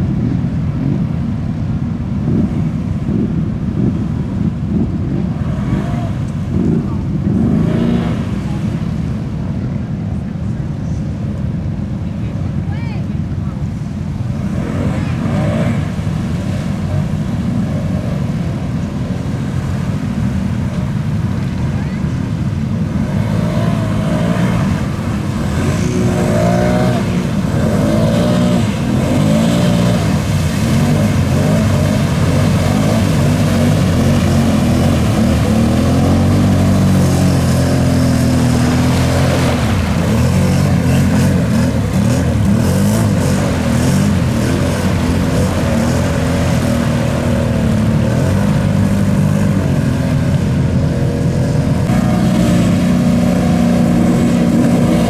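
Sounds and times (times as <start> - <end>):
off-road vehicle engines revving: 0.0 - 55.0.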